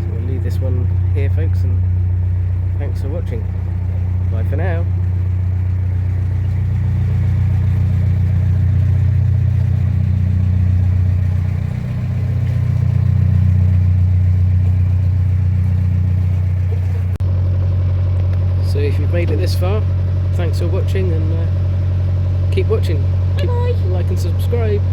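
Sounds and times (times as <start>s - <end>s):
boat engine droning: 0.0s - 24.9s.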